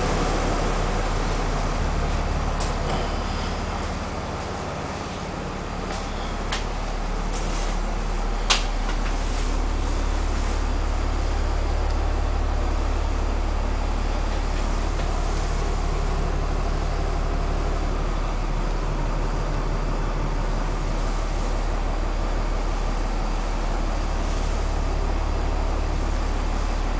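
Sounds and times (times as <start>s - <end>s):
diesel bus engine idling: 0.0s - 26.9s.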